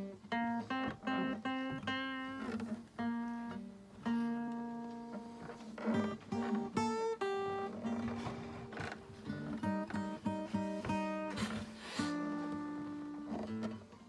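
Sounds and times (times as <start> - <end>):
acoustic guitar solo: 0.0 - 14.0.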